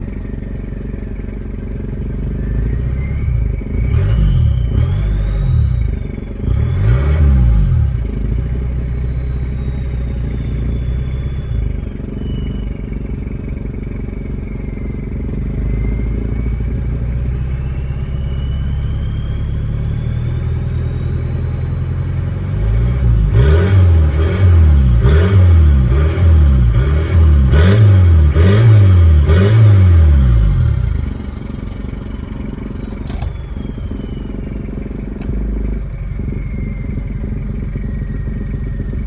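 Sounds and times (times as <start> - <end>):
diesel engine idling: 0.0 - 39.0
turbocharger whistle: 0.0 - 39.0.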